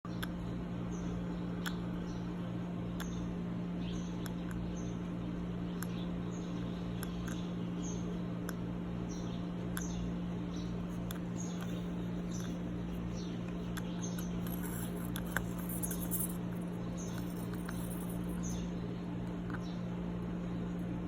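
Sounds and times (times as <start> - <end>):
electrical hum: 0.0 - 21.0
small bird peeping: 0.1 - 19.9.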